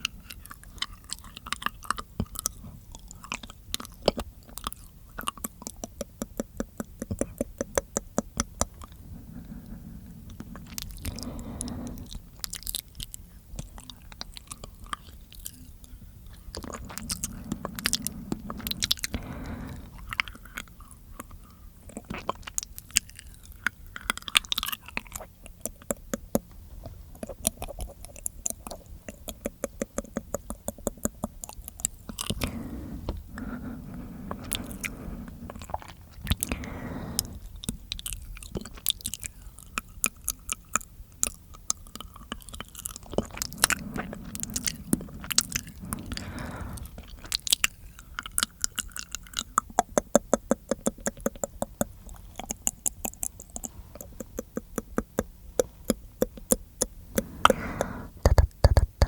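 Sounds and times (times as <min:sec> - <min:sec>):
tongue and lip clicks: 0:00.0 - 0:09.7, 0:10.3 - 0:33.5, 0:34.2 - 0:59.0
squelchy chewing noise: 0:00.0 - 0:59.0.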